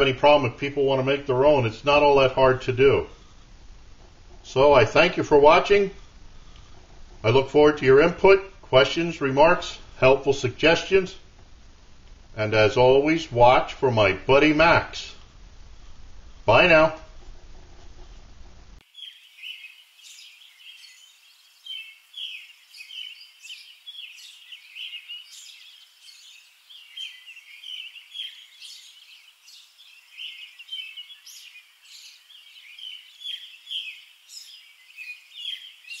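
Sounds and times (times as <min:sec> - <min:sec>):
songbirds chirping: 0:00.0 - 0:17.1, 0:18.8 - 0:36.0.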